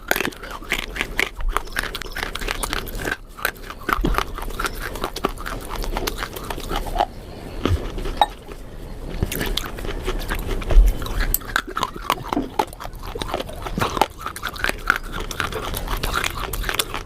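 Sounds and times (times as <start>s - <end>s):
wet mouth sounds: 0.0s - 8.6s, 9.2s - 17.0s
person chewing crunchy food: 0.0s - 17.0s.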